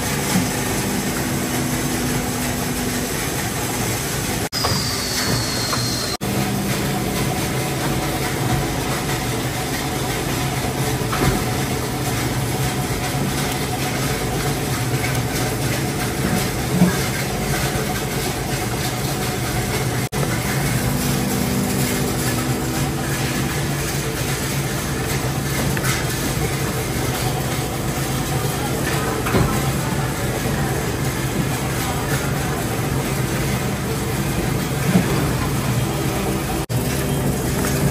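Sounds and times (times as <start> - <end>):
injection moulding machinery hum: 0.0 - 37.9.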